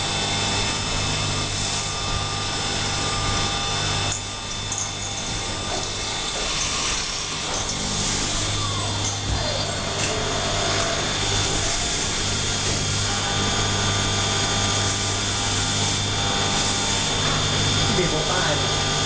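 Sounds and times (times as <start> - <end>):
machine hum and whine: 0.0 - 19.0.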